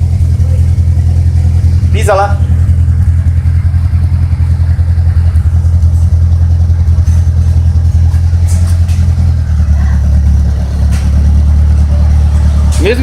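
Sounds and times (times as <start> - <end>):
loud car engine drone: 0.0 - 13.0.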